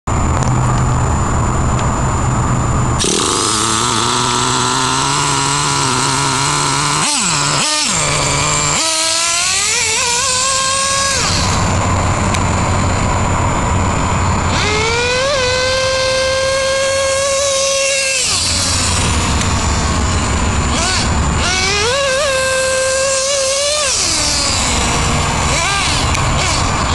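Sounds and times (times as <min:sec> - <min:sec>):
nitro engine revving: 0:00.1 - 0:26.9.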